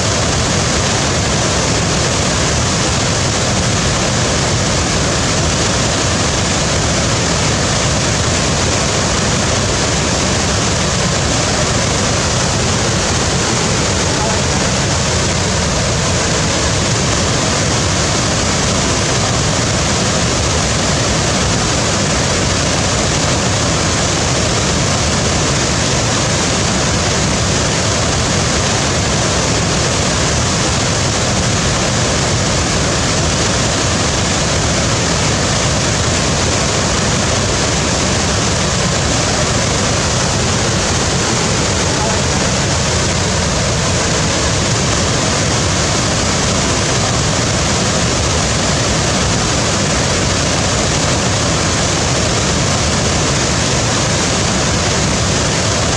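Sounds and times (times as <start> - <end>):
waterfall roaring: 0.0 - 55.9.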